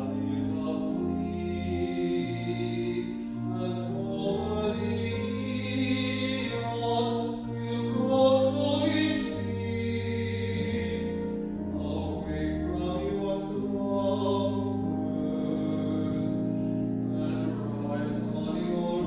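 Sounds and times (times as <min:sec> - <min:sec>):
choir singing a hymn: 0:00.0 - 0:19.0
instrumental accompaniment: 0:00.0 - 0:19.0.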